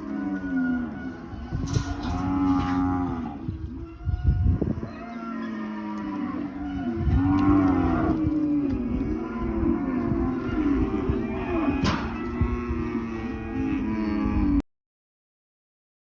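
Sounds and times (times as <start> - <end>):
cattle mooing: 0.0 - 14.6.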